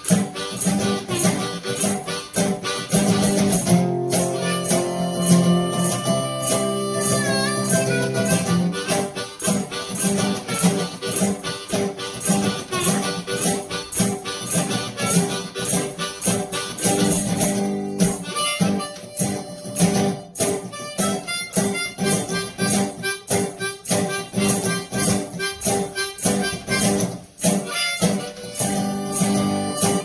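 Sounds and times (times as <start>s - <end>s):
foot tambourine beat: 0.0s - 30.0s
harmonica: 0.0s - 30.0s
resonator guitar: 0.0s - 30.0s.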